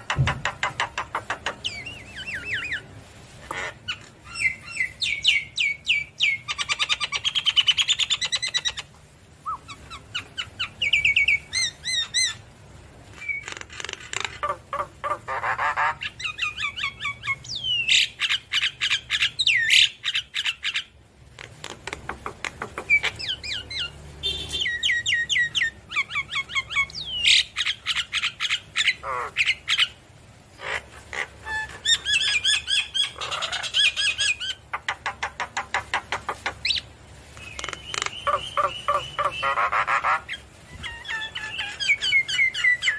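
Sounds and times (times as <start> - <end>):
bird chattering and whistling: 0.0 - 2.9, 3.5 - 12.4, 13.2 - 30.0, 30.6 - 42.9.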